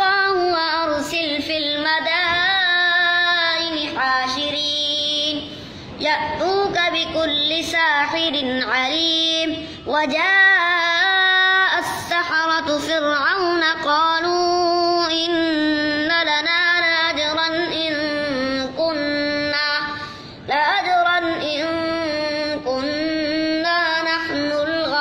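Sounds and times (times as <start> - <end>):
boy chanting melodically: 0.0 - 25.0.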